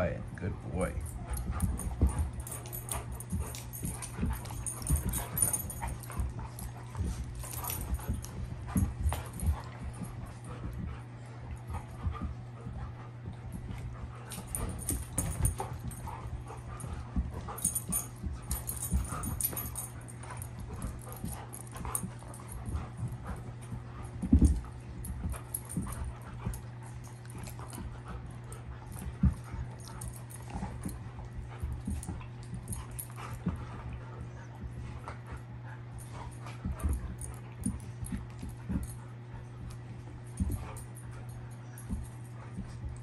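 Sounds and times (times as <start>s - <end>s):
paws scuffling on carpet and couch: 0.0s - 43.0s
dog noises: 0.3s - 43.0s.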